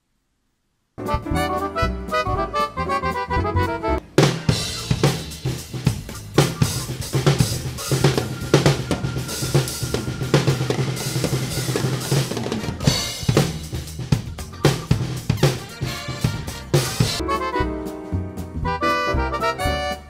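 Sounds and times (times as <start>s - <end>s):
drum kit groove: 1.0s - 20.0s.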